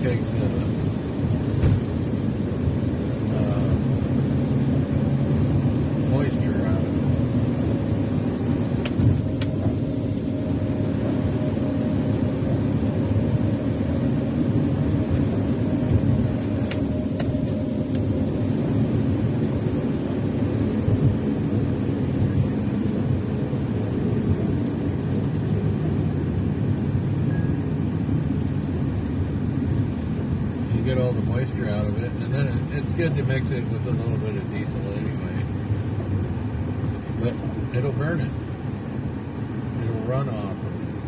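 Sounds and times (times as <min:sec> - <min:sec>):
car road noise on wet road: 0:00.0 - 0:41.0.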